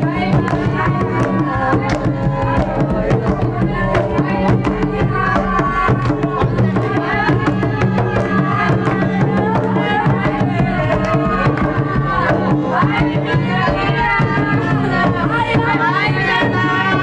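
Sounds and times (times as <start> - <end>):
hand drum beating: 0.0 - 17.0
women wailing and chanting: 0.0 - 17.0.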